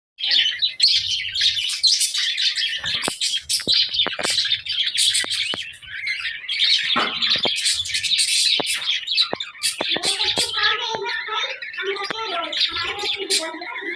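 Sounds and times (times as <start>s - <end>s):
budgerigars chattering and warbling: 0.2s - 13.9s.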